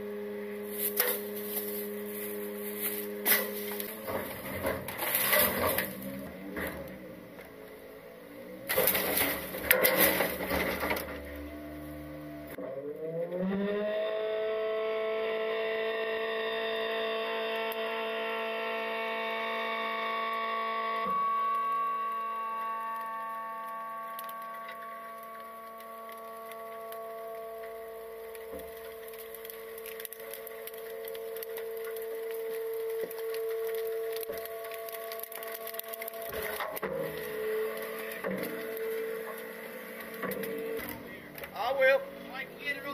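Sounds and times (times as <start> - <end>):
hydraulic pump whine: 0.0 - 42.9.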